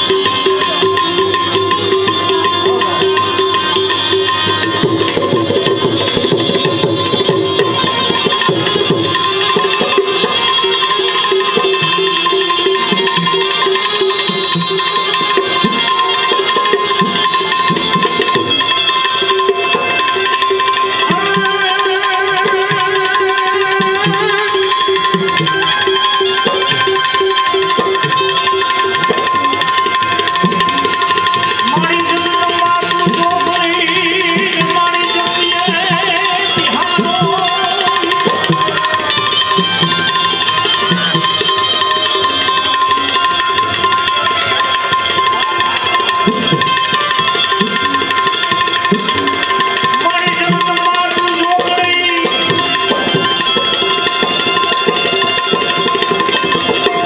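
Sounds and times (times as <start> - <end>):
held drone tone: 0.0 - 57.0
tabla rhythm: 0.0 - 57.0
wavering melody line: 0.0 - 57.0.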